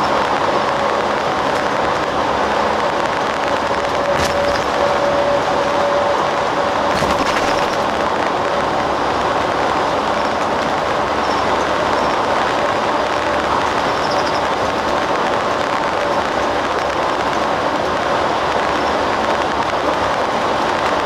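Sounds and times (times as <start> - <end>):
coach engine and road noise: 0.0 - 21.0.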